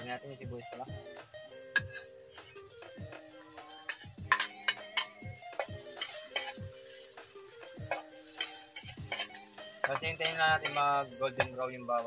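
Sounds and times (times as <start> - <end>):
background music: 0.0 - 12.0
food sizzling in wok: 0.0 - 12.0
spatula clanking against wok: 1.7 - 11.7.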